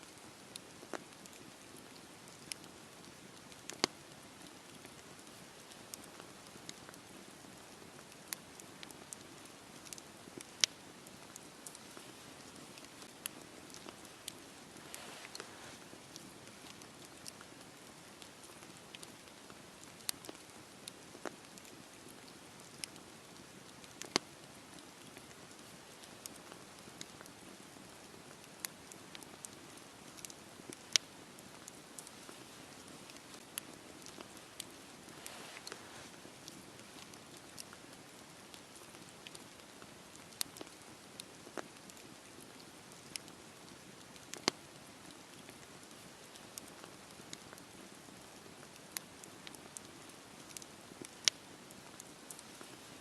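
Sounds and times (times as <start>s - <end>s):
fire crackles and pops: 0.0s - 53.0s
campfire hissing: 0.1s - 53.0s.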